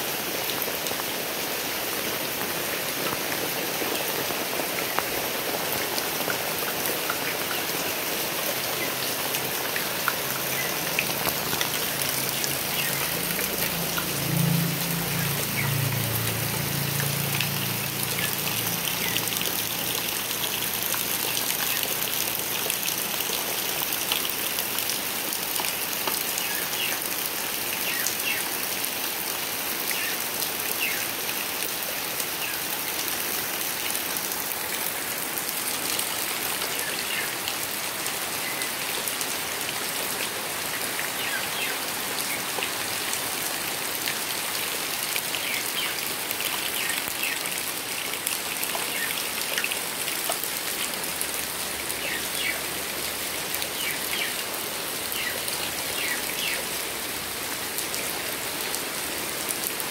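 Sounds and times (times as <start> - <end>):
heavy rain on pond and paving: 0.0 - 59.9.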